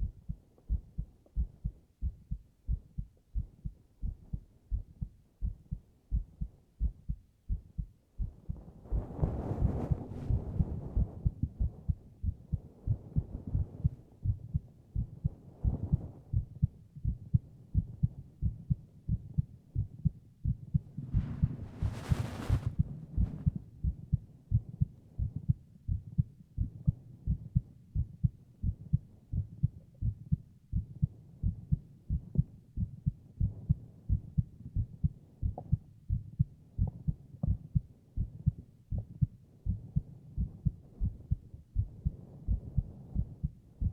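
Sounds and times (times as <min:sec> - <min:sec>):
heartbeat thumping: 0:00.0 - 0:43.9.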